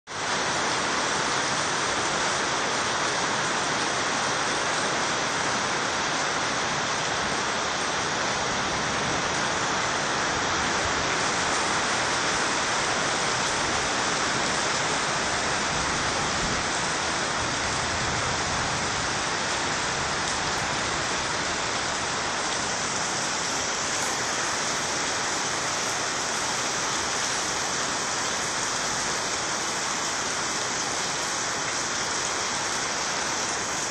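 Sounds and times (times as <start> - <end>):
heavy rain pelting ground: 0.1 - 33.9.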